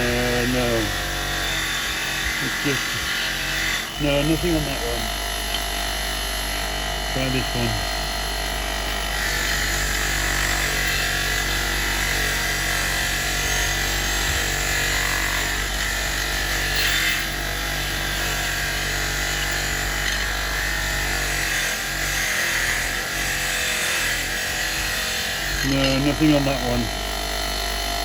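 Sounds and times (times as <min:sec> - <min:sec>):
wire brush wheel scouring metal: 0:00.0 - 0:28.0.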